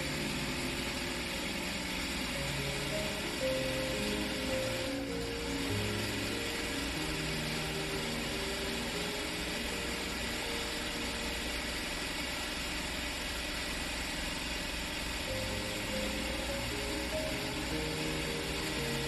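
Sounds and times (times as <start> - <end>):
soft background music: 0.0 - 13.4, 15.0 - 19.0
steady low hum: 0.0 - 19.0.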